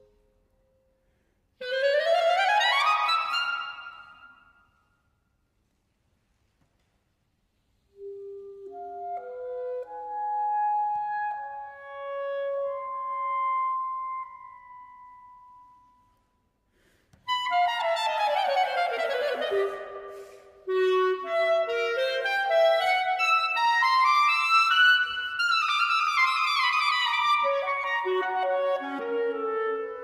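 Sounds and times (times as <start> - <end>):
clarinet: 1.6 - 4.6, 7.8 - 16.3, 17.2 - 30.0.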